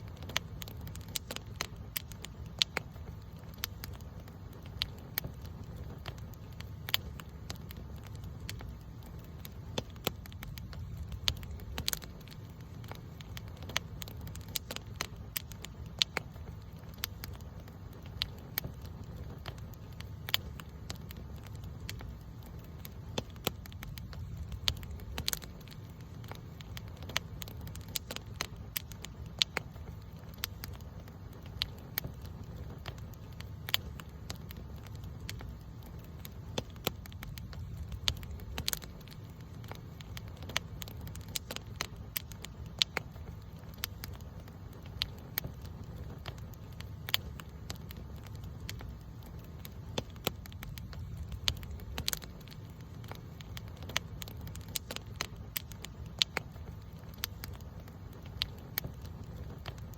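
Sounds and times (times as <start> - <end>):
campfire crackling: 0.0 - 59.9
low rumble of flame: 0.0 - 59.9
sharp pops from fire: 0.0 - 59.9.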